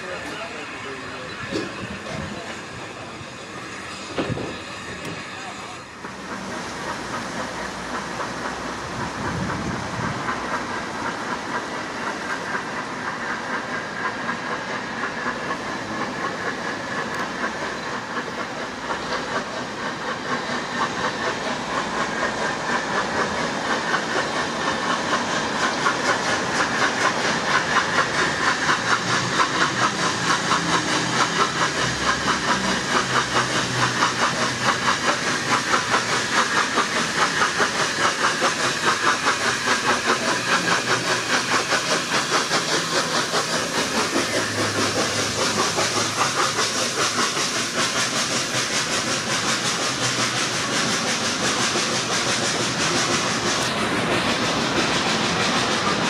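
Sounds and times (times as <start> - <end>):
steam hiss: 0.0 - 56.0
steam locomotive exhaust beats: 0.0 - 56.0.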